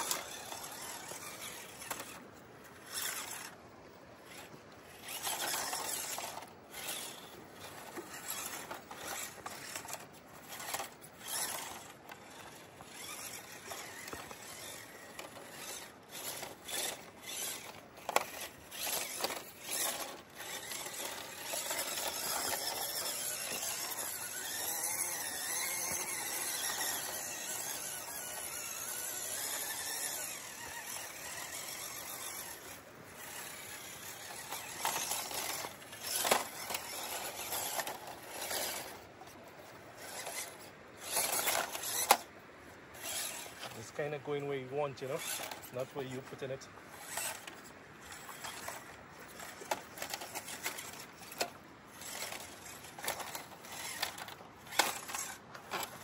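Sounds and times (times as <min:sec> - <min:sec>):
toy car motor whining: 0:00.0 - 0:56.0.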